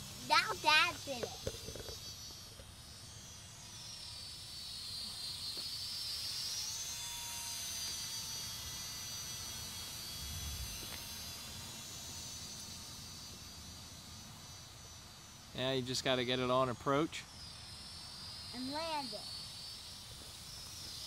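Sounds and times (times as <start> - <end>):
model plane motor whine: 0.0 - 21.0.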